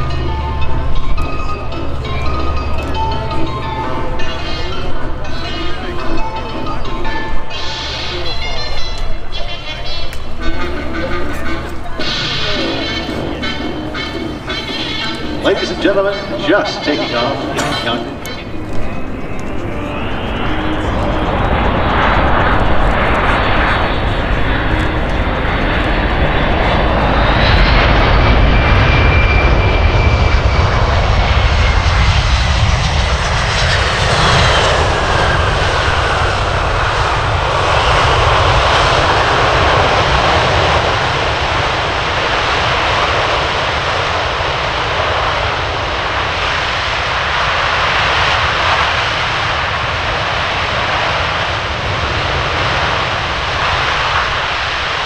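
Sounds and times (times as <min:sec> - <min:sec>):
high turbine whine: 0:00.0 - 0:55.0
jet engines roaring: 0:00.0 - 0:55.0.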